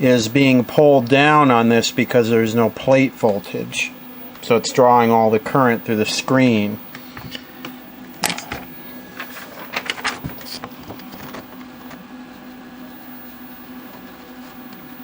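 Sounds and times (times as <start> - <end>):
tv steady low hum: 0.0 - 15.0.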